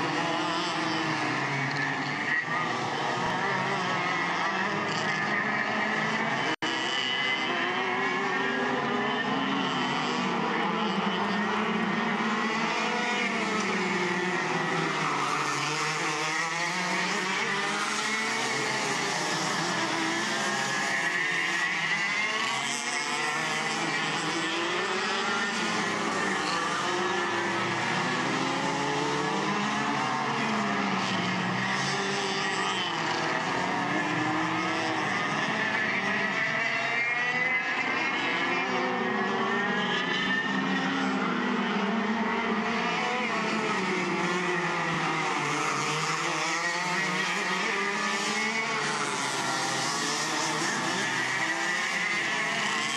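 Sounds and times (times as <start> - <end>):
kart engines racing: 0.0 - 52.9.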